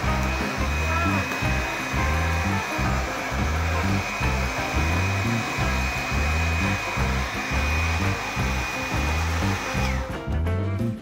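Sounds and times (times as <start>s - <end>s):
heat gun fan whine: 0.0s - 10.1s
background music with steady beat: 0.0s - 11.0s.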